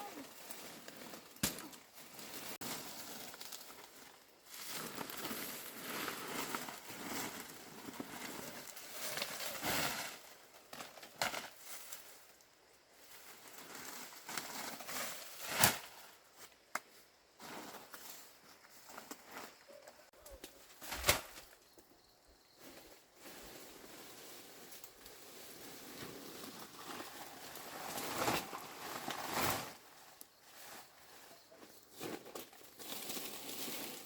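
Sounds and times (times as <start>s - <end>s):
plant material rustling and crackling: 0.0s - 16.1s, 22.6s - 34.0s.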